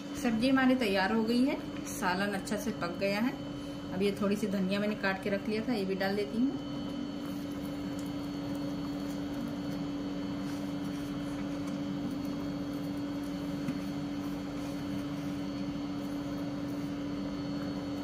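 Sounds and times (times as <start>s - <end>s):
steady low machine hum: 0.0s - 18.0s.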